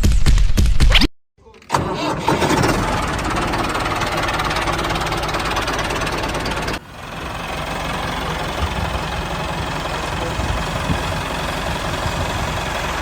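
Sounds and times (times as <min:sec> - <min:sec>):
small engine ticking: 0:02.3 - 0:13.0.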